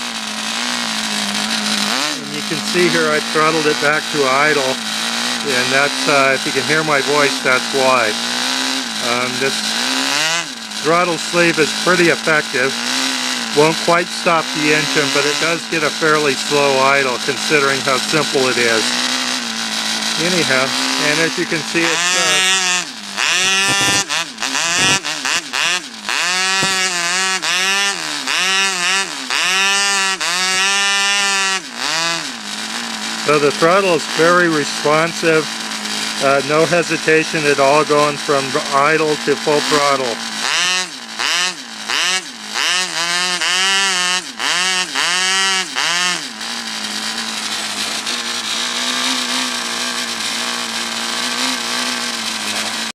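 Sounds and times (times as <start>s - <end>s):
model engine revving: 0.0s - 52.9s.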